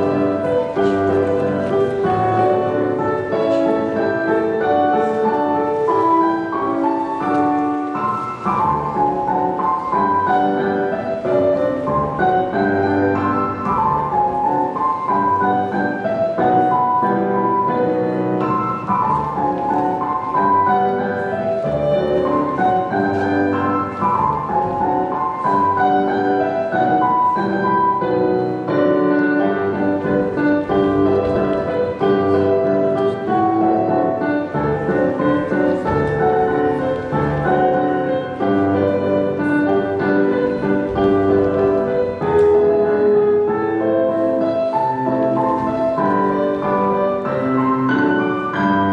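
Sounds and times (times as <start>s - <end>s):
classical piano music: 0.0s - 48.9s.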